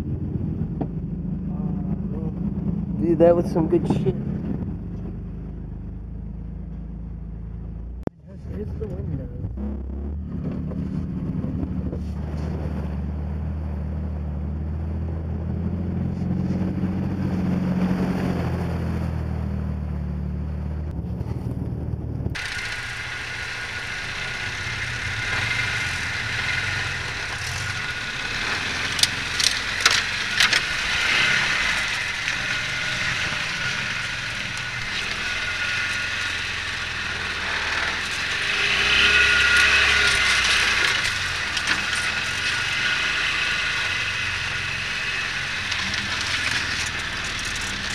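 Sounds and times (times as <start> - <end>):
high steady whine: 0.0 - 21.1, 21.8 - 47.9
pickup truck engine running: 0.0 - 47.9.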